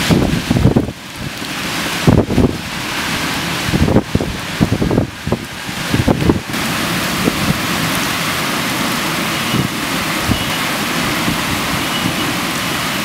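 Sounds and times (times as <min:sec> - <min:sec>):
heavy rain hiss: 0:00.0 - 0:13.0
raindrops knocking on surfaces: 0:00.0 - 0:13.0.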